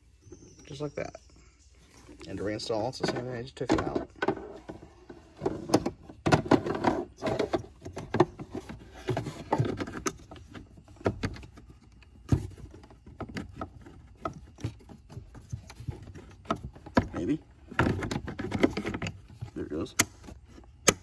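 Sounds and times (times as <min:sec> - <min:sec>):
plastic scraping and knocking: 0:02.2 - 0:21.0.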